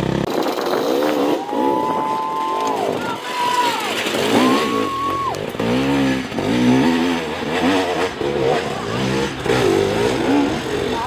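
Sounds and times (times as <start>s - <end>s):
motorcycle engine revving: 0.0s - 2.0s, 4.0s - 11.0s.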